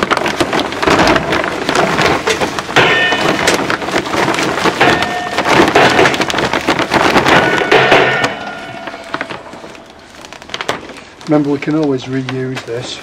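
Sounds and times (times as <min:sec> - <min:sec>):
charcoal briquettes clattering: 0:00.0 - 0:13.0.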